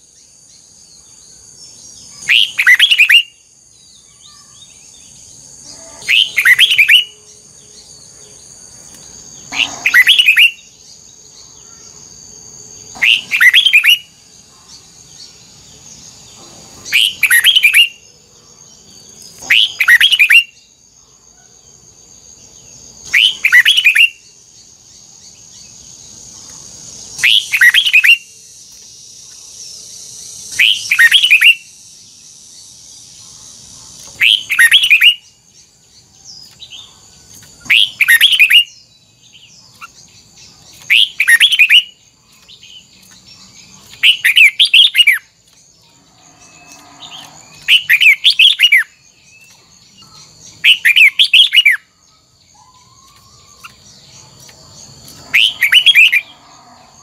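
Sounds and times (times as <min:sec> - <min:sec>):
bird singing short song phrases: 0:00.0 - 0:12.0, 0:12.8 - 0:18.1, 0:18.7 - 0:20.8, 0:22.7 - 0:31.8, 0:32.6 - 0:56.8.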